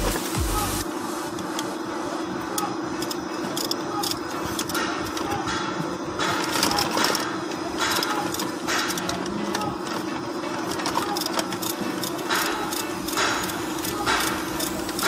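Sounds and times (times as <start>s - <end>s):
machine humming: 0.0s - 15.0s
rattling bursts: 2.6s - 15.0s.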